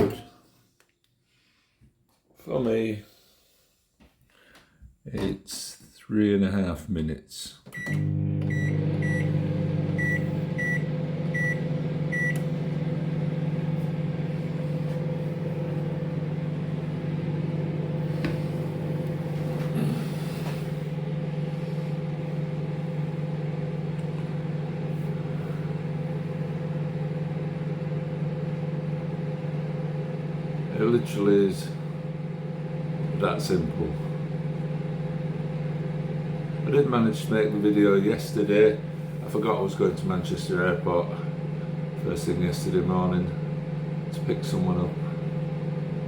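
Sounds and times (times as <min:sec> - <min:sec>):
microwave oven humming: 0:07.8 - 0:46.0.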